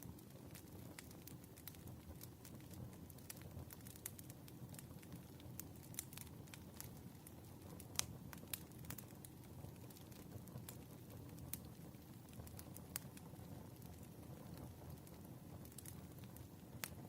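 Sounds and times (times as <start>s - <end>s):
firewood crackling: 0.0s - 17.0s
flames rumbling: 0.0s - 17.0s.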